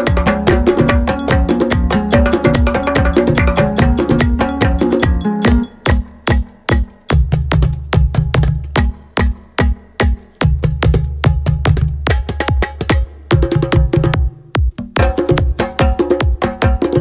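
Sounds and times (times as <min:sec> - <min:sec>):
drum-machine beat: 0:00.0 - 0:17.0.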